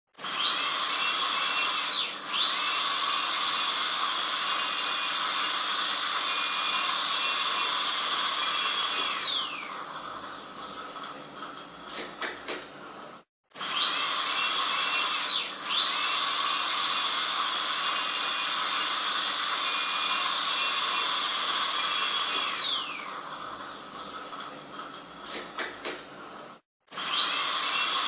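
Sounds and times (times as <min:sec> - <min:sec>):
dentist's drill whining: 0:00.1 - 0:11.2, 0:13.5 - 0:25.6, 0:26.9 - 0:28.0.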